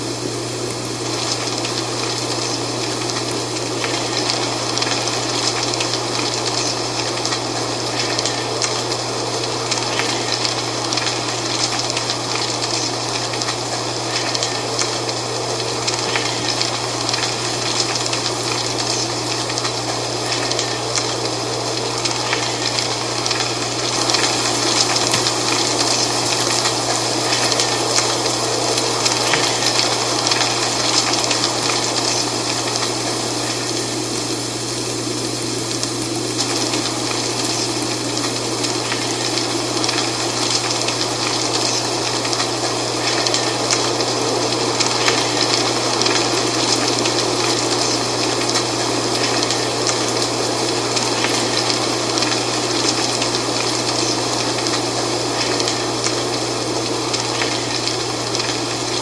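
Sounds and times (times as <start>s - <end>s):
dry leaves rustling in wind: 0.0s - 59.0s.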